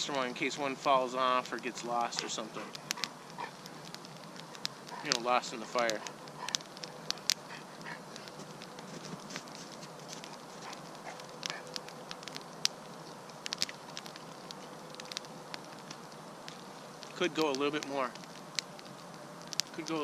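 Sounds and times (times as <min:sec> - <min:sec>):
campfire crackling and popping: 0:00.0 - 0:20.0
steady fire hiss: 0:00.0 - 0:20.0.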